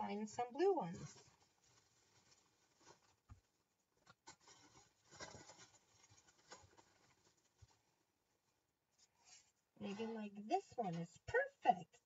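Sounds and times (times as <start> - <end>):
rustling and scraping of craft supplies: 0.5 - 11.3.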